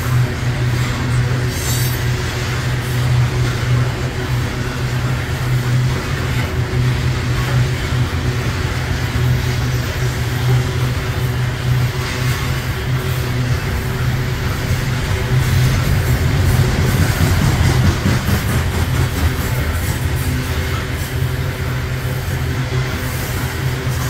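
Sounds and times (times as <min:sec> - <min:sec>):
train cars rumbling on rails: 0:00.0 - 0:24.0.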